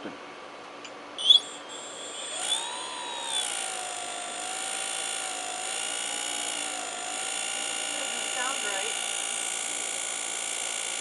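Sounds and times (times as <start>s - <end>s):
electric motor whine: 1.2s - 11.0s.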